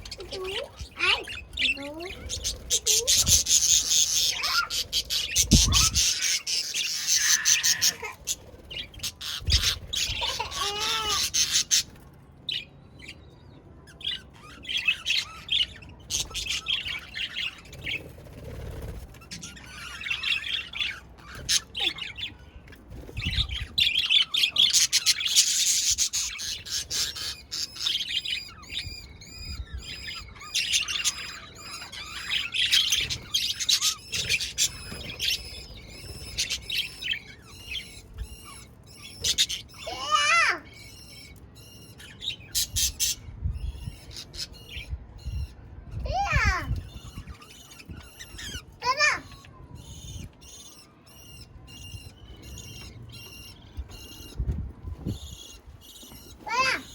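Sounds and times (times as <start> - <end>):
budgerigars chirping and warbling: 0.0 - 56.9.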